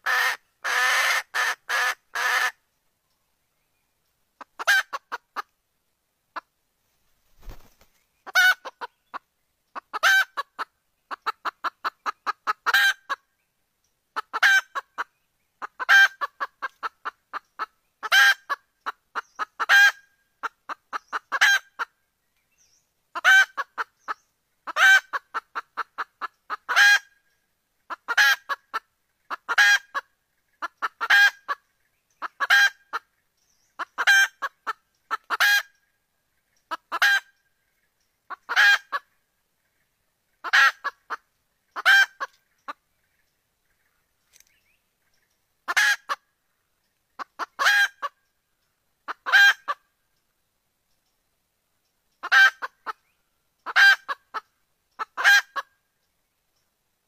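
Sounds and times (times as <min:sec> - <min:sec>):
junglefowl hen cackling and clucking: 0:00.0 - 0:02.6, 0:04.3 - 0:05.6, 0:06.3 - 0:06.6, 0:07.3 - 0:13.4, 0:14.1 - 0:22.1, 0:23.1 - 0:50.4, 0:52.1 - 0:56.0.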